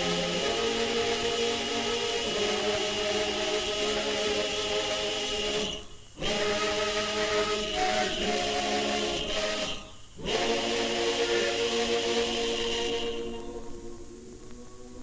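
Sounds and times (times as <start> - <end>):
choir singing a cappella: 0.0 - 15.0.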